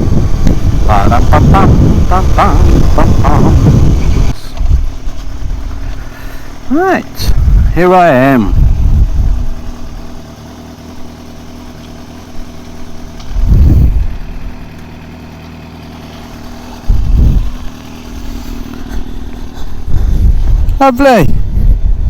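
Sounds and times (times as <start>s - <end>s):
low engine rumbles: 0.0s - 22.0s
motorcycle engine idling: 0.0s - 22.0s.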